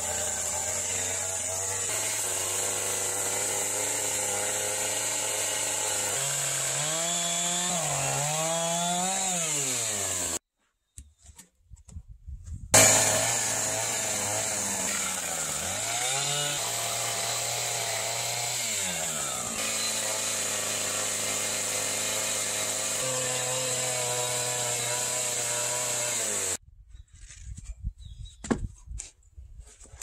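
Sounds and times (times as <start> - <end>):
chainsaw running: 0.0 - 10.4, 12.8 - 26.6.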